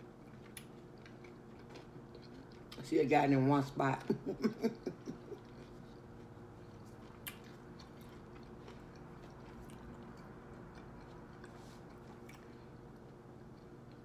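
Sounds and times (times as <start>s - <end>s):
person chewing: 0.0s - 2.8s, 4.9s - 14.0s.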